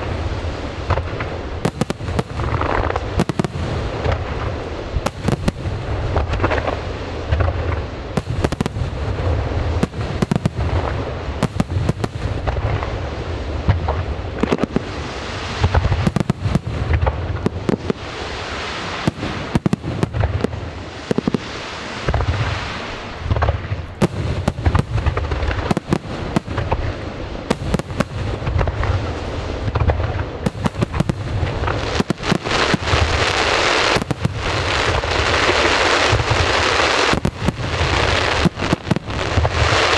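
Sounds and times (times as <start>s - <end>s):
fireworks bangs: 0.0s - 39.9s
fireworks rumble and crackle: 0.0s - 39.9s.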